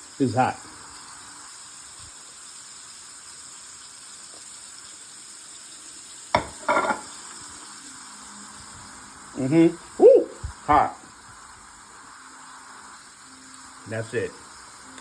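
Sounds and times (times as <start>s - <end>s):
frying oil sizzling: 0.0s - 15.0s.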